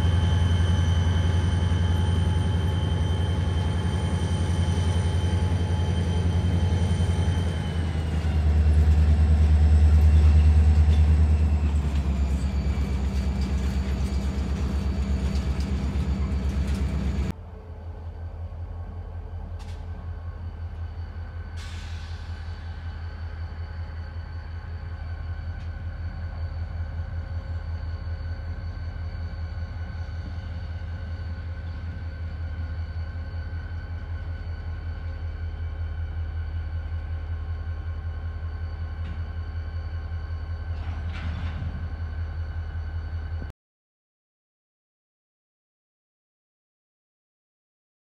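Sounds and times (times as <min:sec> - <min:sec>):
diesel locomotive engine rumble: 0:00.0 - 0:43.5.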